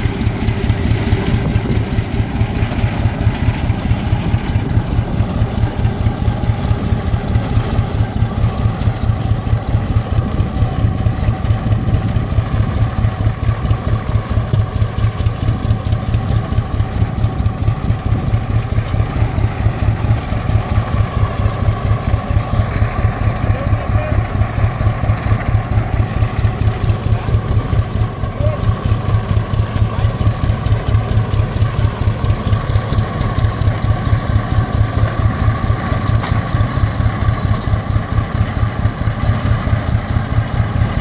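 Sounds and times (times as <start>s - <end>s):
tractor engine running under load: 0.0s - 41.0s.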